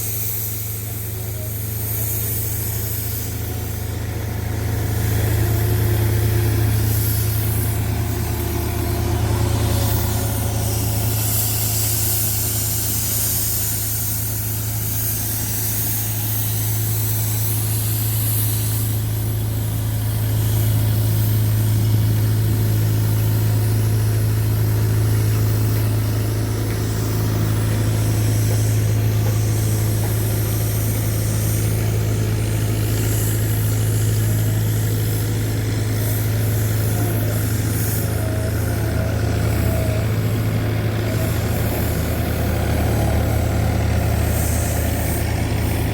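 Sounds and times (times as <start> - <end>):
diesel engine humming: 0.0 - 45.9.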